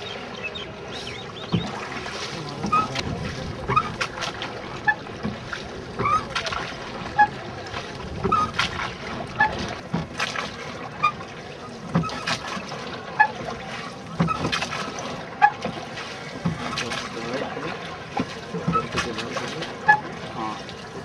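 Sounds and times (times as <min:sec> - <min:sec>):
boat creaking: 0:00.0 - 0:21.0
oars knocking and splashing: 0:00.0 - 0:21.0
water running along hull: 0:00.0 - 0:21.0.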